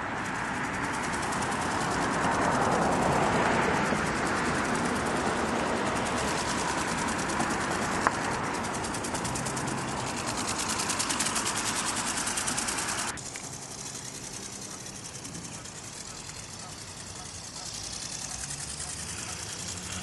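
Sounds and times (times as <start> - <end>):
toy motor whirring and flapping: 0.0 - 20.0.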